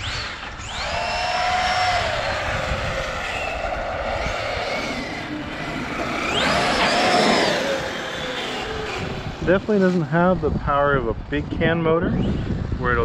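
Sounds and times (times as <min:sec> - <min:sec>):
electric motor whining: 0:00.0 - 0:10.6
steady noisy rush: 0:00.0 - 0:12.0.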